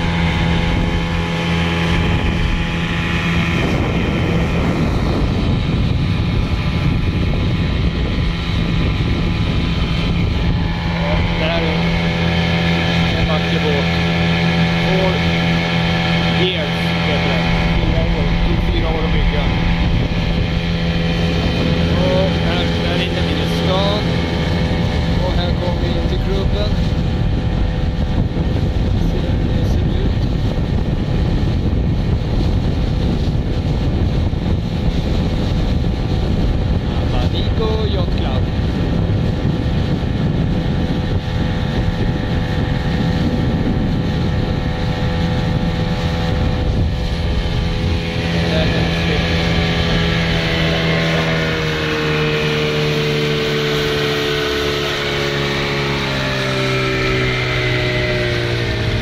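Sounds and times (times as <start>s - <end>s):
boat engine running: 0.0s - 59.0s
rushing wake water: 0.0s - 59.0s
wind on microphone: 0.0s - 59.0s.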